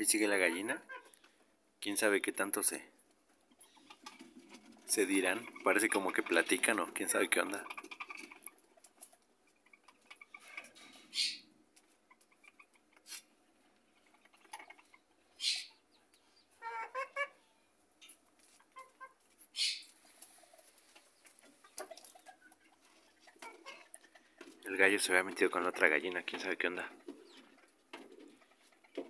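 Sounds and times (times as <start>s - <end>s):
hens clucking: 0.0s - 1.6s, 2.6s - 29.0s.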